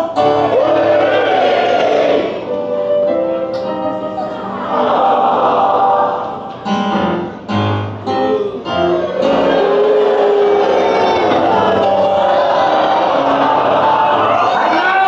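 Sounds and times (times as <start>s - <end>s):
loud music with held notes: 0.0s - 15.0s.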